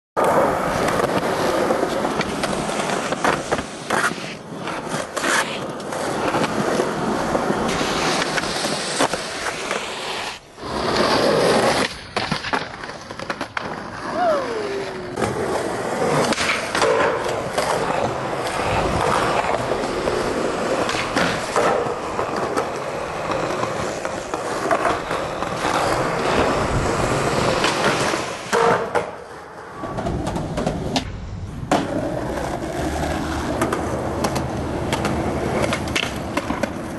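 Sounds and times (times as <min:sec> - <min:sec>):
skateboard clacks: 0:00.2 - 0:36.9
skateboard grinding a ledge: 0:00.2 - 0:36.9
skateboard wheels rolling on concrete: 0:00.2 - 0:36.9.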